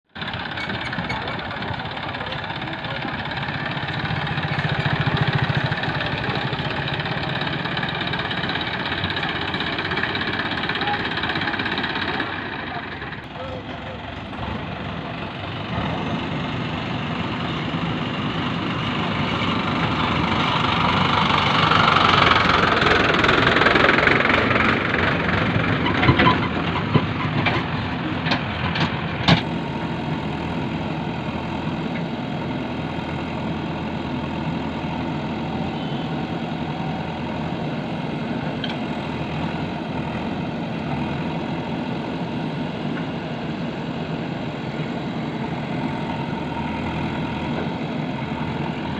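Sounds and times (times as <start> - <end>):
diesel engine revving and idling: 0.1 - 48.9.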